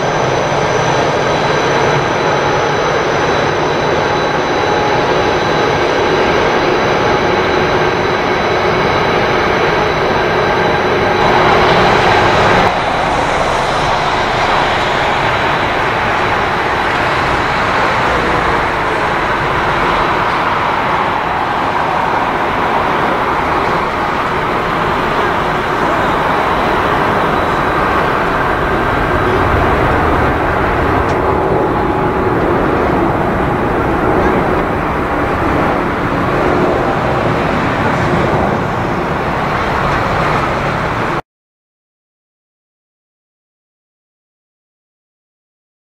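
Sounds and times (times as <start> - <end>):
jet engines running: 0.0 - 41.2.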